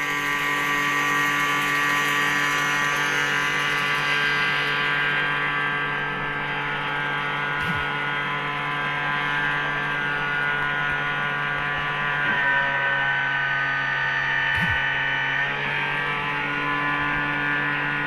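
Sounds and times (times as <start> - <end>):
electric pump hum and whine: 0.0 - 18.0.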